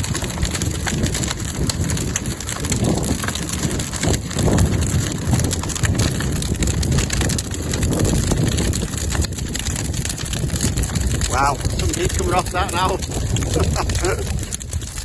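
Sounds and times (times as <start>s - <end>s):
bonfire crackling: 0.0s - 15.0s
fire low rumble: 0.0s - 15.0s.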